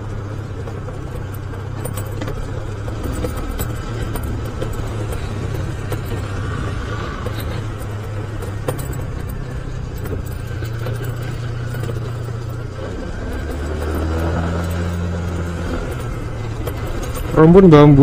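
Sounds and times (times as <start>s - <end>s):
light clicks and rattles: 0.0s - 18.0s
motorcycle engine running: 0.0s - 18.0s.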